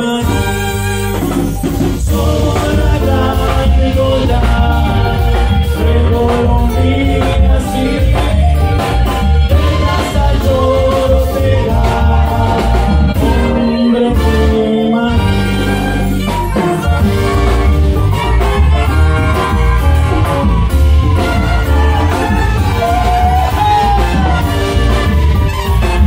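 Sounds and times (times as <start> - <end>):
band playing latin folk-dance music: 0.0 - 26.0.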